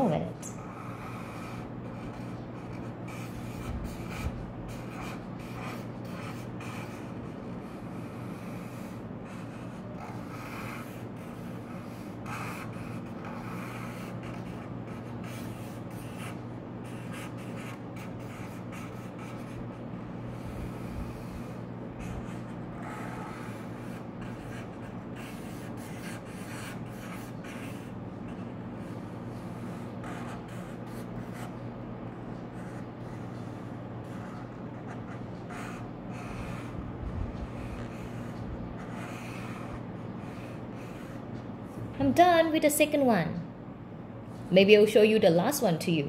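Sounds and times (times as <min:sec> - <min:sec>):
steady low hum: 0:00.0 - 0:46.0
marker drawing on paper: 0:00.6 - 0:19.6, 0:20.3 - 0:31.5, 0:32.6 - 0:36.8, 0:37.4 - 0:41.2.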